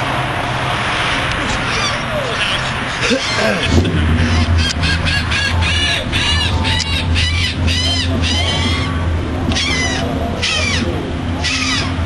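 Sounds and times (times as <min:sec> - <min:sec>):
steady low hum: 0:00.0 - 0:12.0
birds calling: 0:01.4 - 0:12.0.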